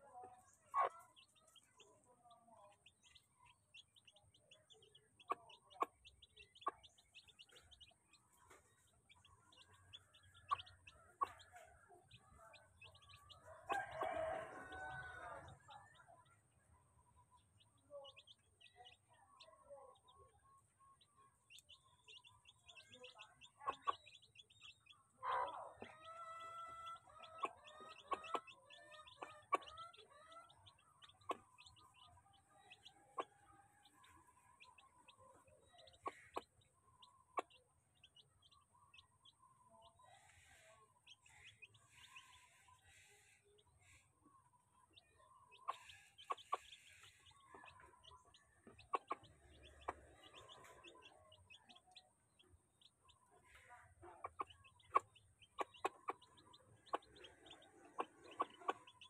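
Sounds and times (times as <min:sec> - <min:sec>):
hen clucking softly: 0:00.0 - 0:16.3, 0:17.8 - 0:59.0
chicks peeping: 0:00.0 - 0:59.0.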